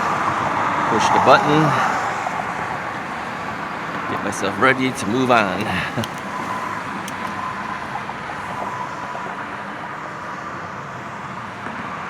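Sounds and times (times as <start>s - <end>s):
passing traffic rush: 0.0s - 12.0s.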